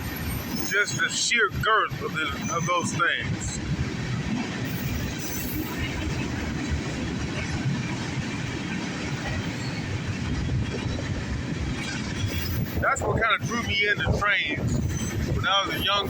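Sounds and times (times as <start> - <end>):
freight train wheels rumbling on rails: 0.0 - 16.0.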